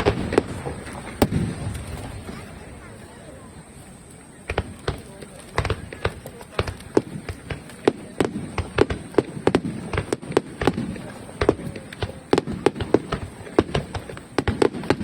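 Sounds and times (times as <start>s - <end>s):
fireworks bangs: 0.0s - 3.0s, 4.4s - 15.0s.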